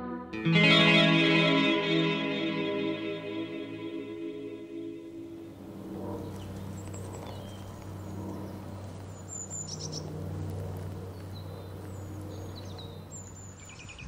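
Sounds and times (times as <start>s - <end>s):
background music drone: 0.0s - 13.5s
songbirds chirping: 0.4s - 14.0s.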